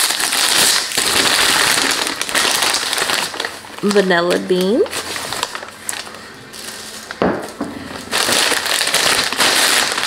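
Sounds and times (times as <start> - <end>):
plastic bag rustling and crinkling: 0.0 - 10.0.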